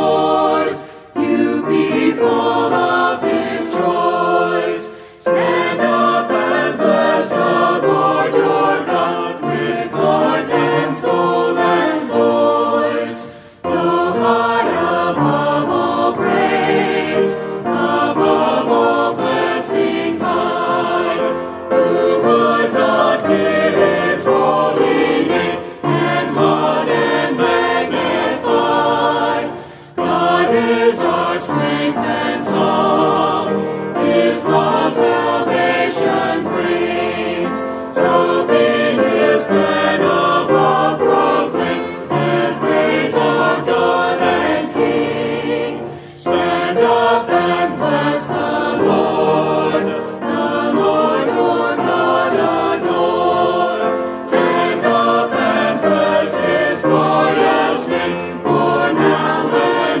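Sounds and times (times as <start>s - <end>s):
choir singing a hymn: 0.0s - 60.0s.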